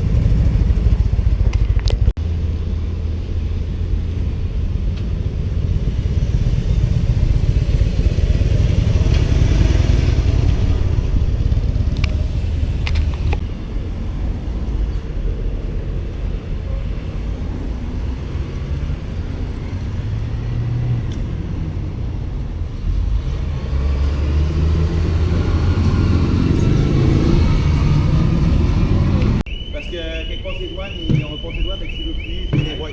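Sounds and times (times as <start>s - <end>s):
road noise: 0.0s - 32.9s
vehicle engines rumbling: 0.0s - 32.9s.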